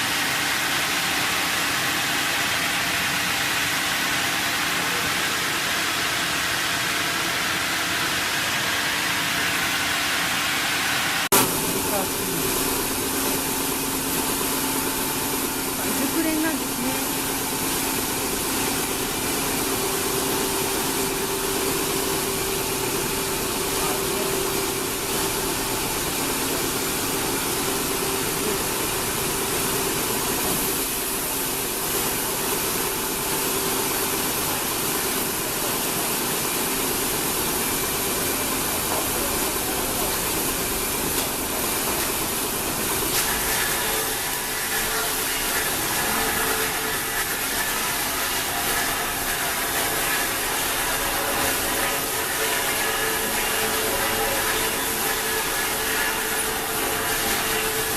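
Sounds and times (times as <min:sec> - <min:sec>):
machine running steadily: 0:00.0 - 0:57.9.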